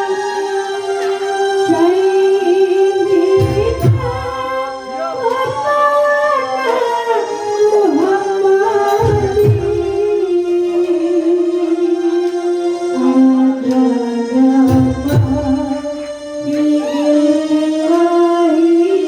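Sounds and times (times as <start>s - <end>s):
music ensemble: 0.0s - 19.0s
person singing long ornamented notes: 0.0s - 19.0s.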